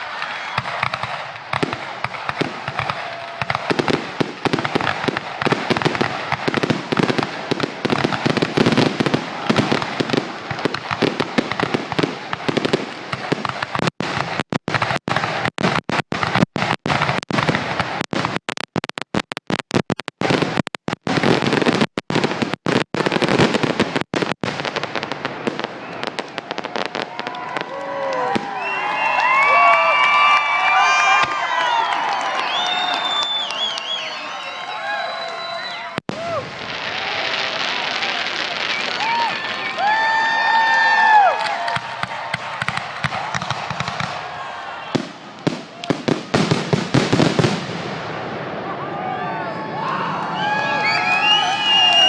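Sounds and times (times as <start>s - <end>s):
fireworks bursts and crackling: 0.0s - 52.0s.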